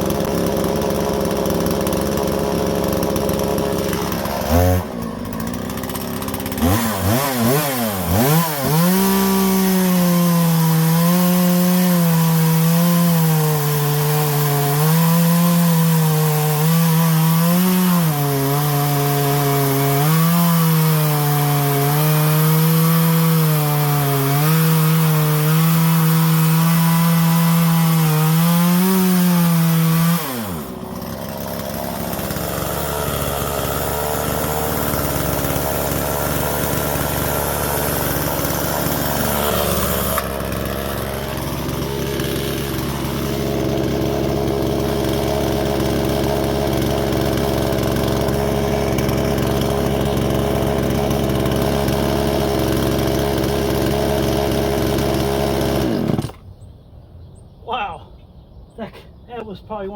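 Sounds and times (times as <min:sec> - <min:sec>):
chainsaw cutting hardwood: 0:00.0 - 0:56.6.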